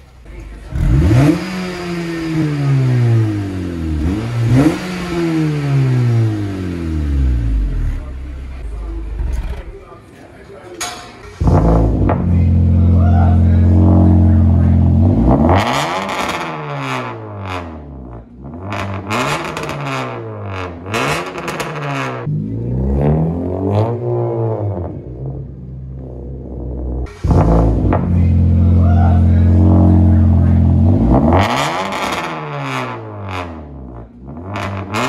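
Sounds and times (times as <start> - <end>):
car engine idling and revving: 0.0 - 10.3, 11.2 - 35.0.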